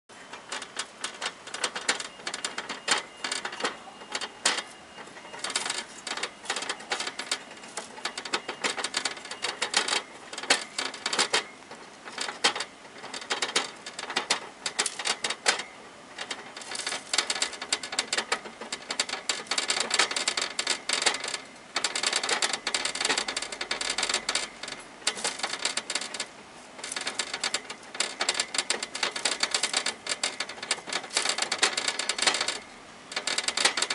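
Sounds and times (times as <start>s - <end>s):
hamster gnawing on wire bars: 0.1s - 33.9s.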